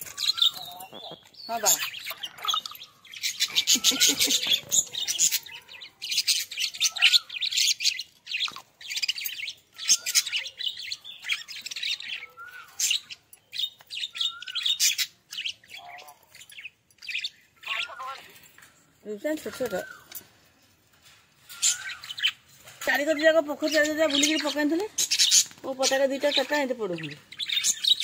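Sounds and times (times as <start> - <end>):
budgerigars chirping and chattering: 0.0 - 28.0.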